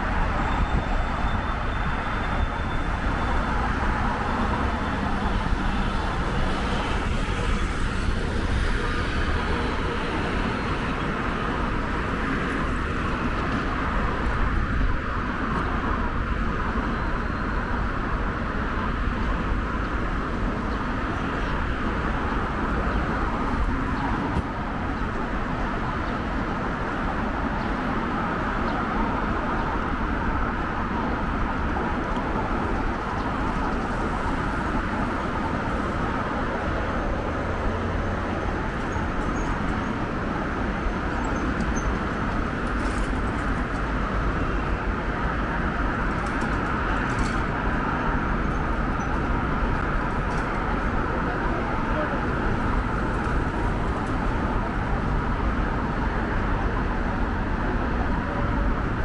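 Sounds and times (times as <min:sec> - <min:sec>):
road traffic rush: 0:00.0 - 0:59.0.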